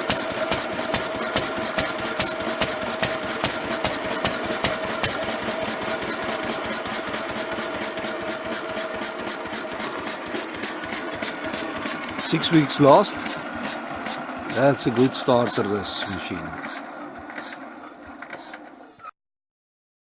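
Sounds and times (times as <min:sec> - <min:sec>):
regular engine knock: 0:00.0 - 0:17.6
stationary engine droning: 0:00.0 - 0:19.0.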